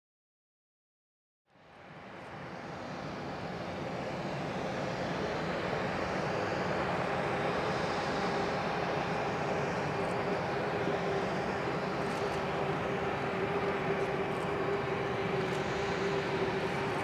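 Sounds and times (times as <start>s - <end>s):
jet engines roaring: 1.6s - 17.0s.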